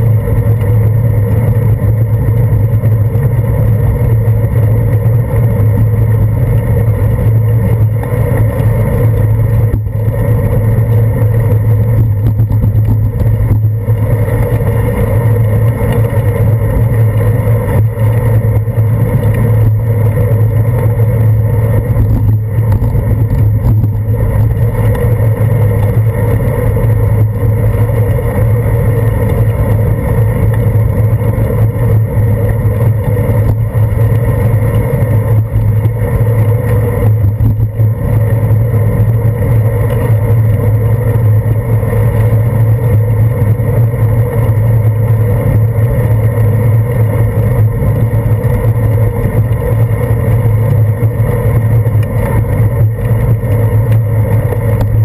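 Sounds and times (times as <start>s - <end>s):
wind and road rumble: 0.0s - 55.0s.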